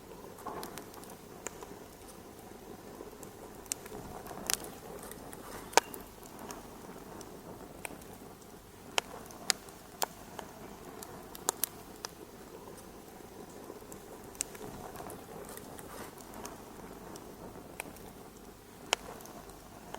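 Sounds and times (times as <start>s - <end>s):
fire crackling and popping: 0.0s - 19.9s.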